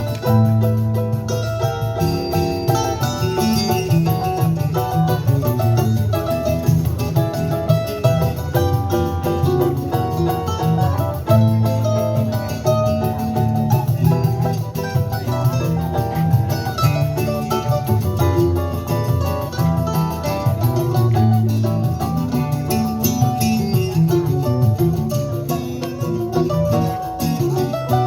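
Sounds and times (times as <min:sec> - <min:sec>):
bright plucked string melody: 0:00.0 - 0:28.0
guitar bass line: 0:00.0 - 0:28.0.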